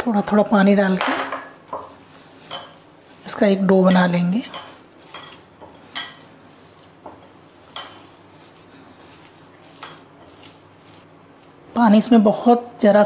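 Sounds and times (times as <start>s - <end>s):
hands kneading dough: 1.6s - 12.4s.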